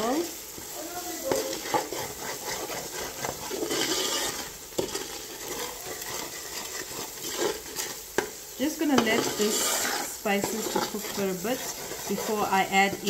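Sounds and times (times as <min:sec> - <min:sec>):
masala sizzling in oil: 0:00.0 - 0:13.0
metal spoon scraping a pot: 0:00.5 - 0:13.0.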